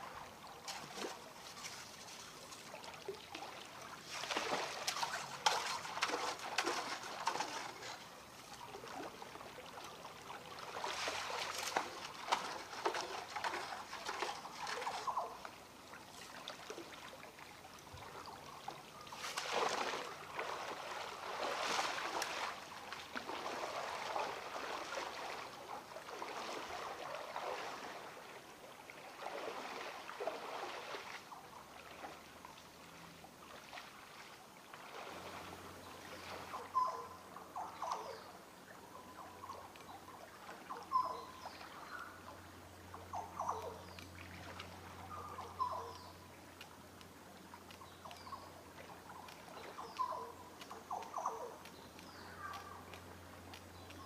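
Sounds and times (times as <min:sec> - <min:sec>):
shallow water sloshing and trickling: 0:00.0 - 0:54.0.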